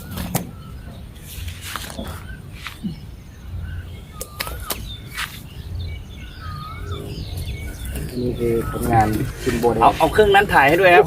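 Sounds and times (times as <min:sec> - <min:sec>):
birds whistling: 0:00.0 - 0:11.0.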